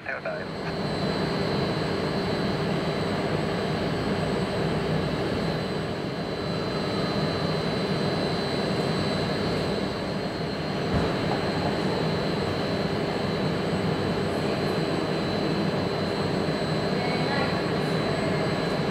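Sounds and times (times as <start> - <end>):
jet engines rumbling with whine: 0.0 - 18.9.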